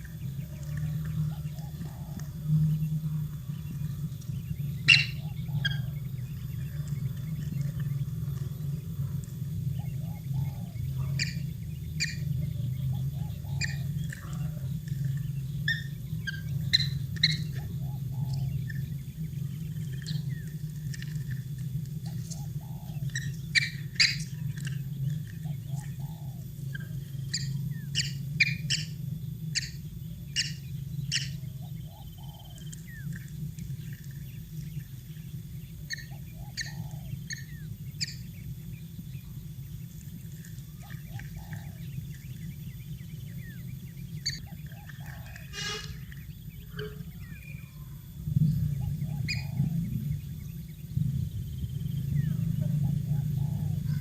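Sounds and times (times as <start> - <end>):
birds chirping: 0.0 - 54.0
soft low bird calls: 0.0 - 54.0
steady low hum: 0.0 - 54.0.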